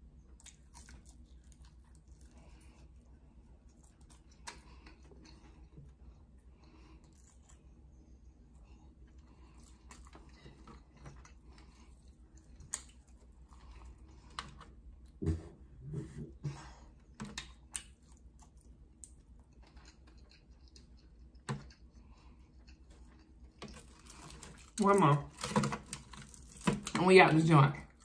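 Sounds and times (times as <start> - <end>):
soft chewing: 0.0 - 26.7.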